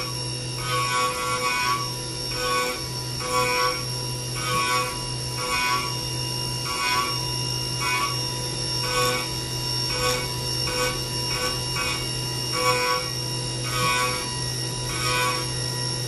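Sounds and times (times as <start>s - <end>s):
ringing metal cutting note: 0.0s - 16.0s
spindle whine: 0.0s - 16.0s.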